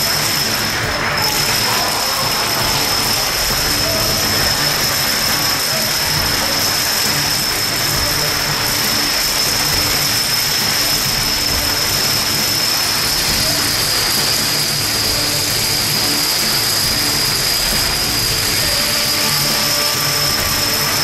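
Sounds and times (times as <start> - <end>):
dominoes clattering on hard floor: 0.0 - 21.0.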